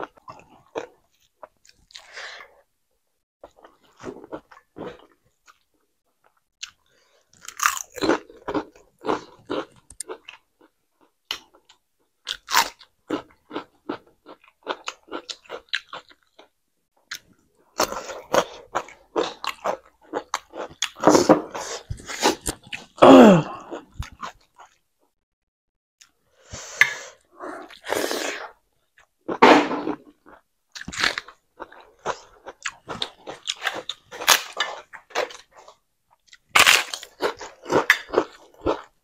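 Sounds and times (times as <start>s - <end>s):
person chewing food: 3.4s - 24.8s, 26.0s - 39.0s.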